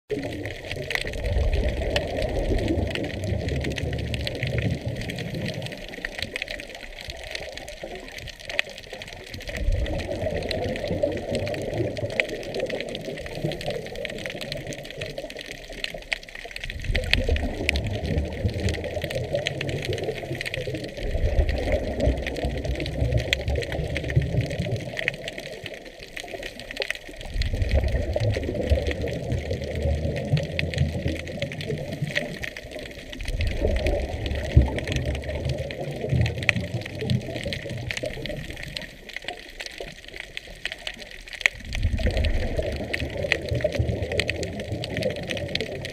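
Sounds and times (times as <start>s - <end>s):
faint crackle of clicks: 0.1s - 45.9s
underwater exhaust bubbles: 0.1s - 45.9s.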